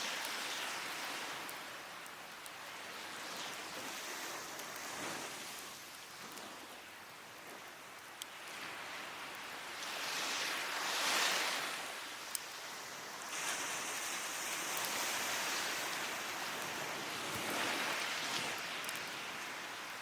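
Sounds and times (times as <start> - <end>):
wood fire crackling: 0.0 - 9.4, 12.2 - 20.0
waves washing up beach: 0.0 - 20.0.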